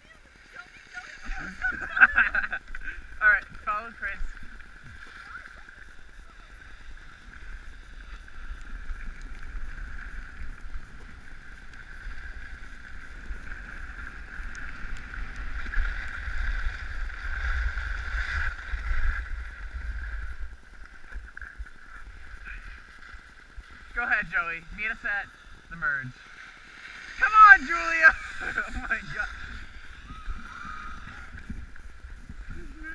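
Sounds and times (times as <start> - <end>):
skis sliding over snow: 0.0 - 32.9
wind rumbling on microphone: 0.0 - 32.9.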